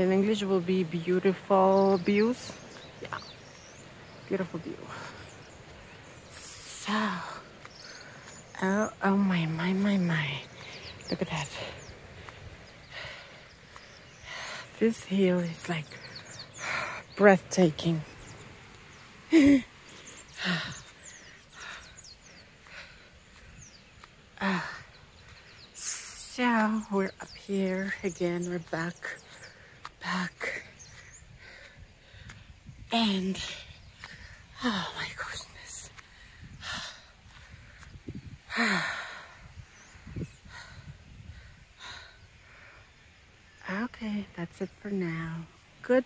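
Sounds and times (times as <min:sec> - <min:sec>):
faint bird chirps: 0:00.0 - 0:46.0.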